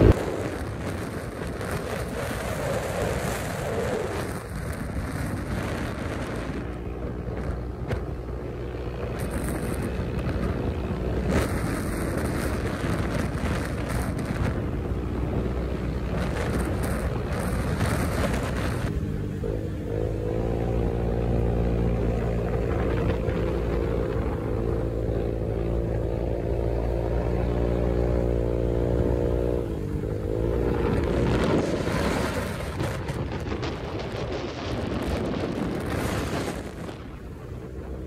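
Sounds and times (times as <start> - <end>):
scooter engine running: 0.0 - 38.0
wind rushing over microphone: 0.0 - 38.0.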